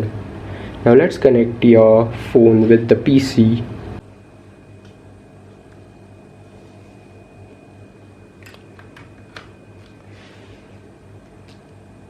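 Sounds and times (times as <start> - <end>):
faint high whine: 0.0 - 12.0
low electrical hum: 0.0 - 12.0.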